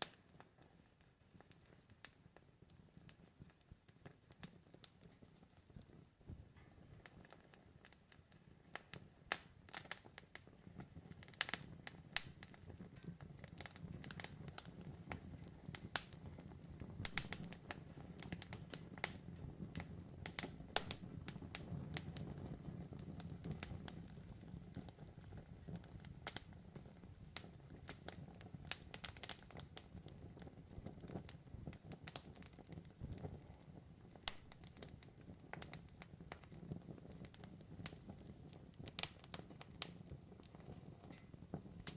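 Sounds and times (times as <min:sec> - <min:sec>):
campfire crackling and popping: 0:00.0 - 0:41.9
low rumble of flames: 0:00.0 - 0:41.9.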